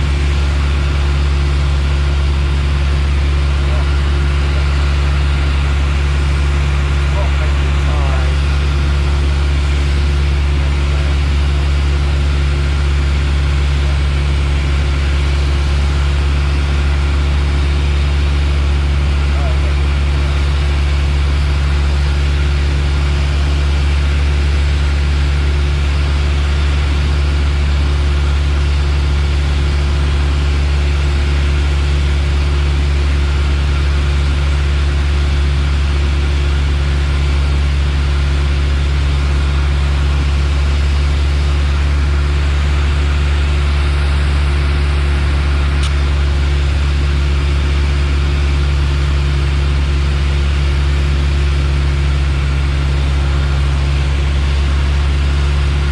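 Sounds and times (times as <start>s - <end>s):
light aircraft engine droning: 0.0s - 55.9s.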